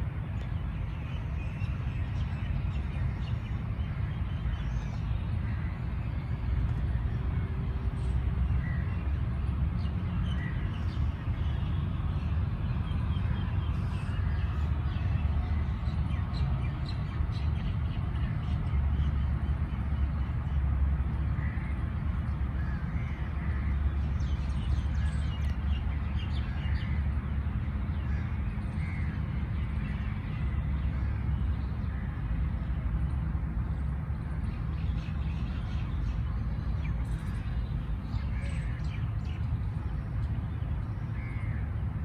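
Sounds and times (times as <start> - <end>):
birds calling: 0.0 - 32.8, 33.7 - 42.0.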